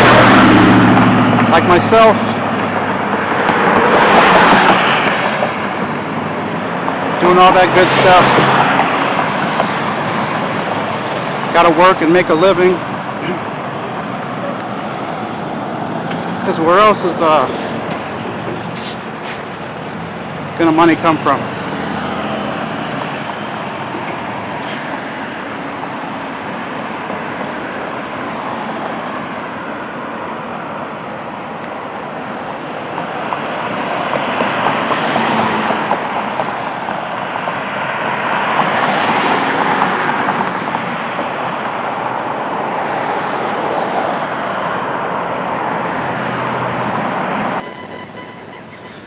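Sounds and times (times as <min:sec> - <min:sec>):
passing cars rushing: 0:00.0 - 0:49.0.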